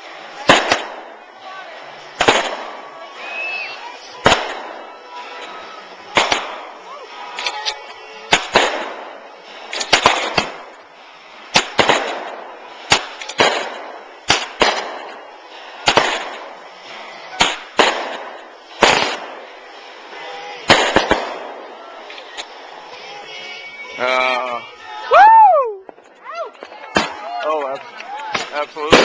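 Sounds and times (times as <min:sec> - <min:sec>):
fireworks bangs: 0:00.0 - 0:25.1, 0:25.8 - 0:29.0.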